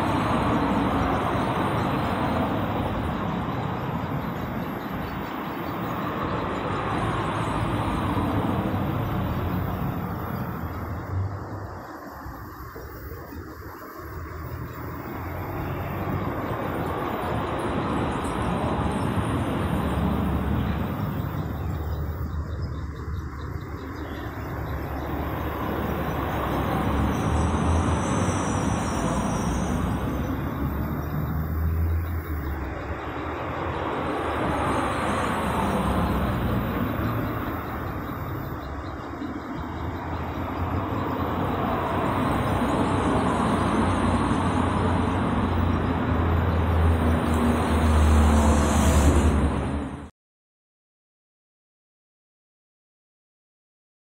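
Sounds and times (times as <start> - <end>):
road traffic rumble: 0.0 - 50.1.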